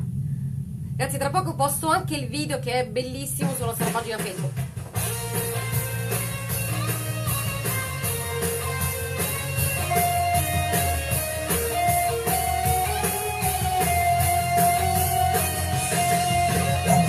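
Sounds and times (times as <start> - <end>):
guitar over a steady beat: 3.3 - 17.0.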